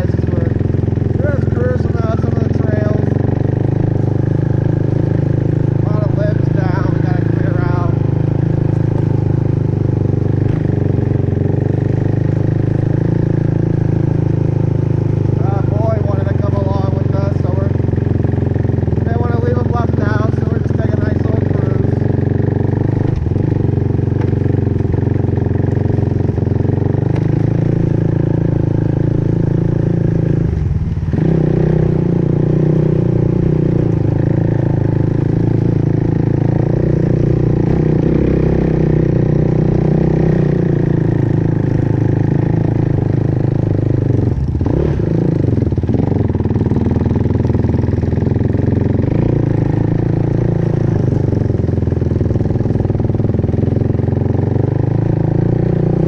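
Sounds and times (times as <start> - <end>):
vehicle engine running with clatter: 0.0 - 56.0.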